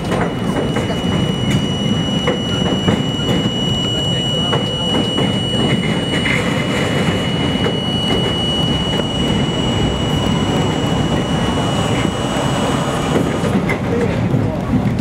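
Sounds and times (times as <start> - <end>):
thin high tone: 0.0 - 13.6
train rumbling over bridge: 0.0 - 15.0.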